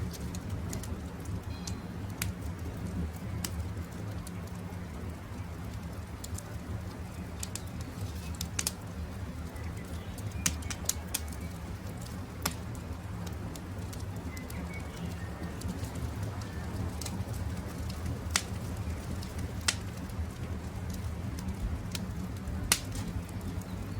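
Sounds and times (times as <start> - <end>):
campfire crackling: 0.0 - 23.9.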